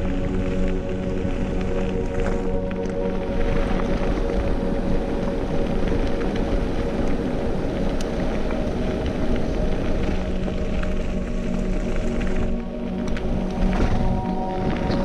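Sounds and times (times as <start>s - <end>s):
bike tyres rolling on gravel: 0.0s - 15.0s
wind noise on microphone: 0.0s - 15.0s.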